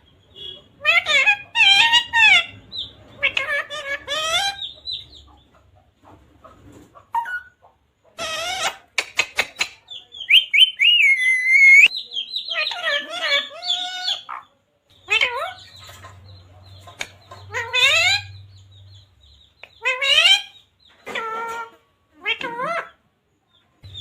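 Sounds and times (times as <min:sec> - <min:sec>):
parrot squawking and chirping: 0:00.3 - 0:05.3, 0:07.1 - 0:07.6, 0:08.2 - 0:23.0.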